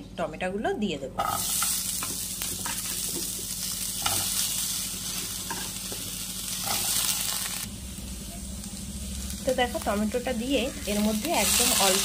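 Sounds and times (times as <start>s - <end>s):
tomato pieces sizzling in a pan: 1.2s - 12.0s.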